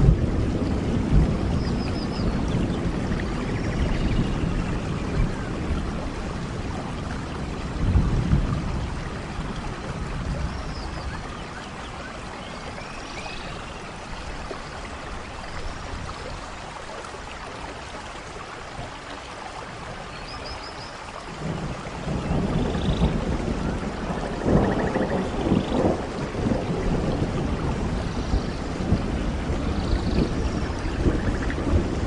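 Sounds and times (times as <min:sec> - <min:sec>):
distant thunder rumble: 0:00.0 - 0:16.4, 0:21.2 - 0:32.0
steady rainfall: 0:00.0 - 0:32.0.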